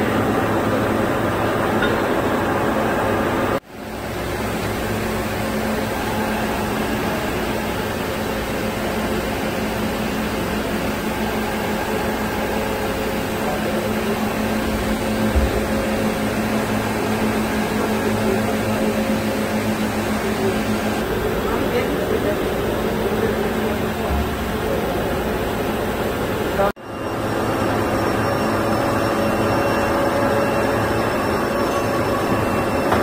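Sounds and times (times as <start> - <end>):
boring machine humming: 0.0 - 33.0.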